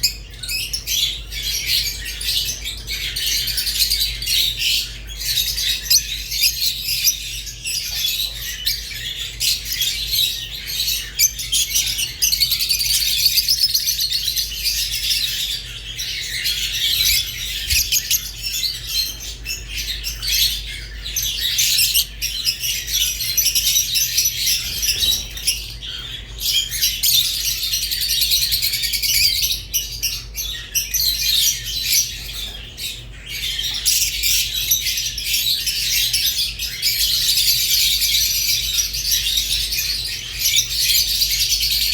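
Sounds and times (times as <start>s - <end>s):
lovebirds chattering and chirping: 0.0s - 41.9s.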